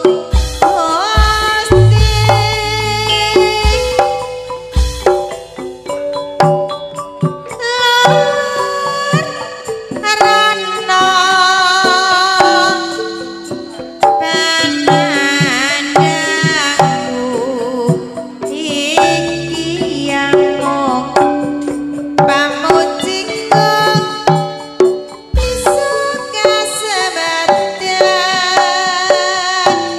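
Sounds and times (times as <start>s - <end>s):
hand drum patterns: 0.0s - 29.9s
pitched melody: 0.0s - 29.9s
woman singing: 0.7s - 4.5s, 7.5s - 29.9s.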